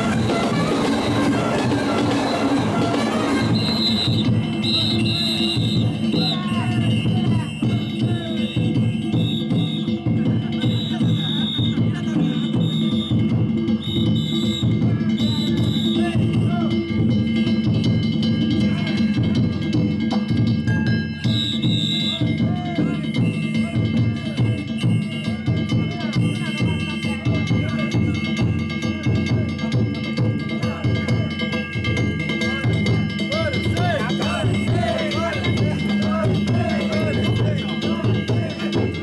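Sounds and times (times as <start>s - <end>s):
taiko drum beating: 0.0s - 26.8s, 27.4s - 39.0s
crowd voices: 0.0s - 39.0s.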